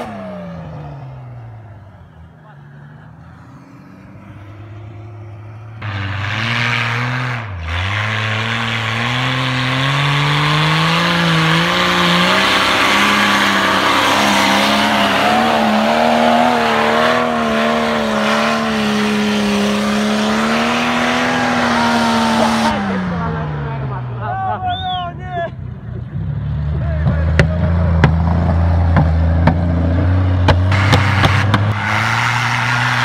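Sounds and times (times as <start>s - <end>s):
car engine revving: 0.0s - 24.9s, 25.5s - 33.0s.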